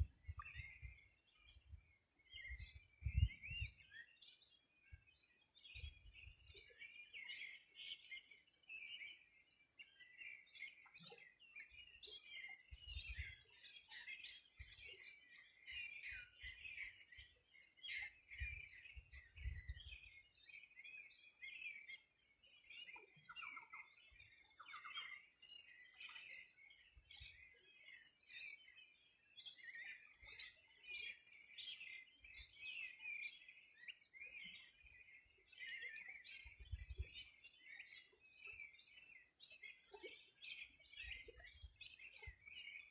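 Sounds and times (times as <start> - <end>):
small birds chirping and trilling: 0.0 - 42.9.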